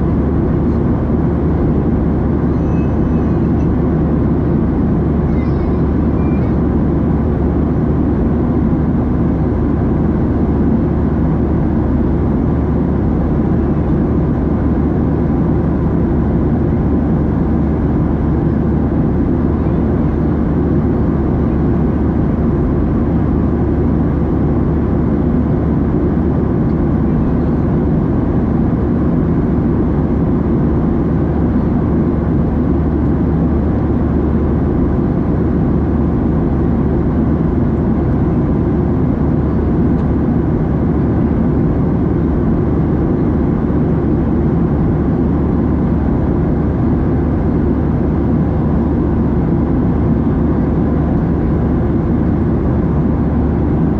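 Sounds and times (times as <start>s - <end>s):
airplane cabin engine roar: 0.0s - 53.9s.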